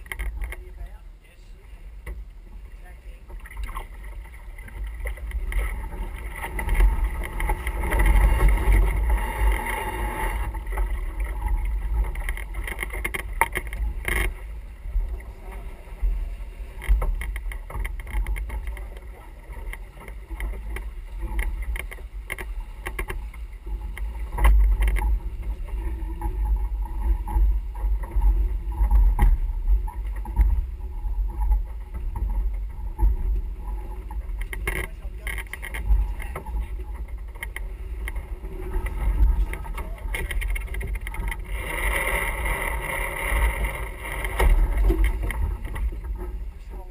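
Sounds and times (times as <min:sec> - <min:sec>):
water rushing past hull: 0:00.0 - 0:46.9
wind rumbling on microphone: 0:00.0 - 0:46.9.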